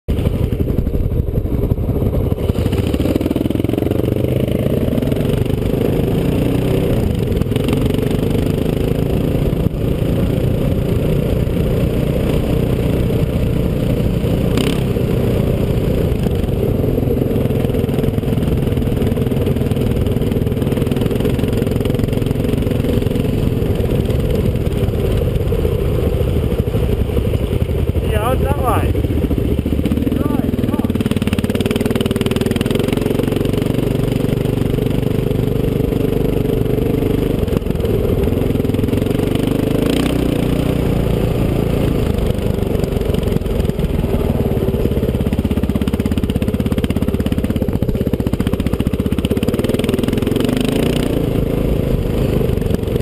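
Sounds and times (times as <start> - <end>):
dirt bike engine revving: 2.2 - 25.2, 26.4 - 53.0.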